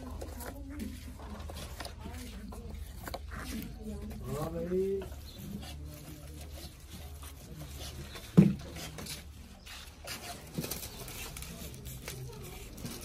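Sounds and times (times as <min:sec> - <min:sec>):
soft taps and rustles of cardboard: 0:00.0 - 0:13.0.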